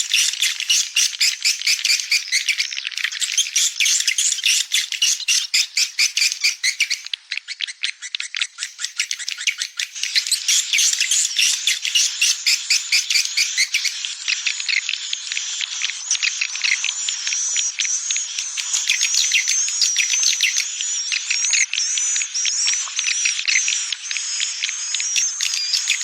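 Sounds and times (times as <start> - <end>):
swiftlets twittering recording: 0.0 - 7.6, 8.2 - 26.0.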